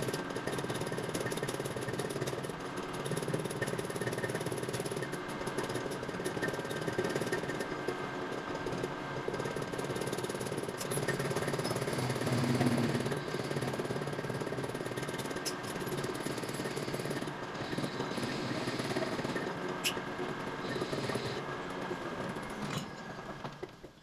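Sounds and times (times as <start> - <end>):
metalworking machinery rattling: 0.0 - 24.0.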